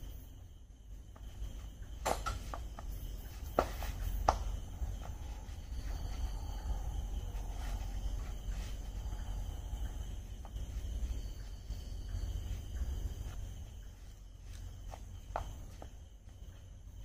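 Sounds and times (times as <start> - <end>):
low hum: 0.0 - 17.0
night insects trilling: 0.0 - 17.0.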